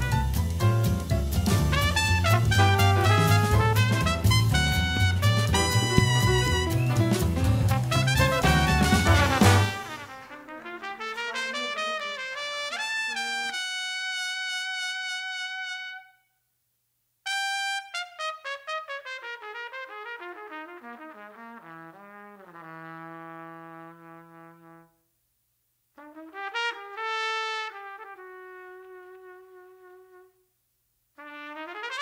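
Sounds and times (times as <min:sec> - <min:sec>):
solo trumpet: 0:00.0 - 0:16.4, 0:17.2 - 0:25.1, 0:25.9 - 0:32.0.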